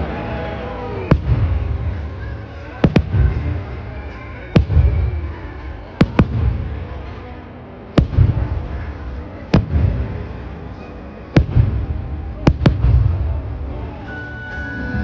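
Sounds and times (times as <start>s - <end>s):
fireworks bangs: 0.0s - 14.8s
low rumble after bangs: 1.0s - 7.3s, 8.0s - 14.1s.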